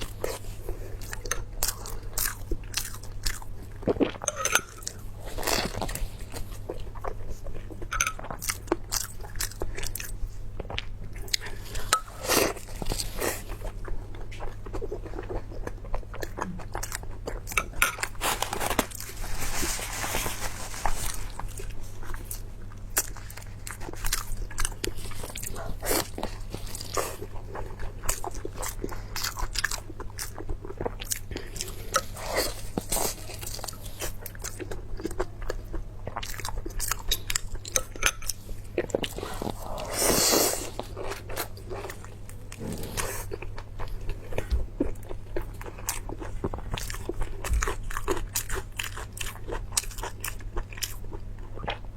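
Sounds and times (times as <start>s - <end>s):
crunchy food being chewed: 0.0s - 51.9s
low electrical hum: 0.0s - 51.9s.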